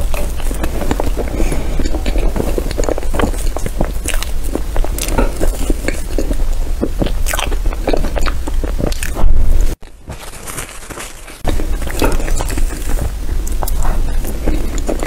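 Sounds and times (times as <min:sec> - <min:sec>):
chewing with wet mouth clicks: 0:00.0 - 0:09.9, 0:11.4 - 0:15.0.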